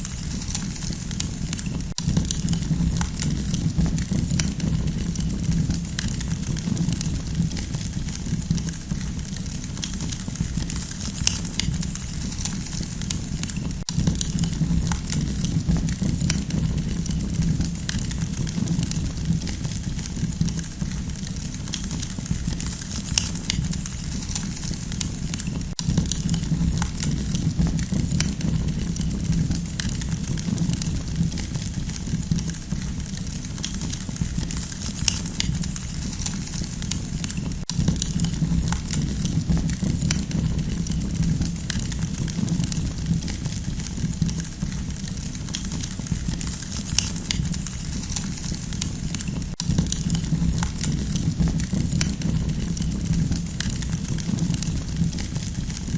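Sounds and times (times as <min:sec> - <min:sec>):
campfire crackling and popping: 0:00.0 - 0:55.9
low fire rumble: 0:00.0 - 0:55.9.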